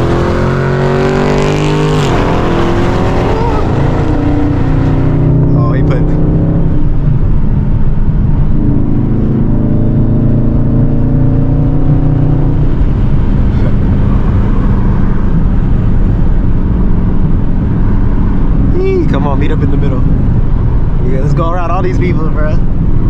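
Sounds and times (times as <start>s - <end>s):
car exhaust drone: 0.0s - 23.0s.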